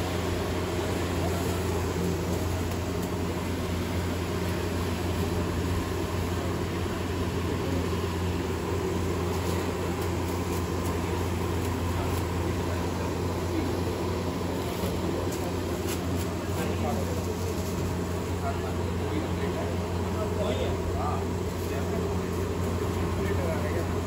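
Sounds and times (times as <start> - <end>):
gas burner hum and hiss: 0.0 - 24.0.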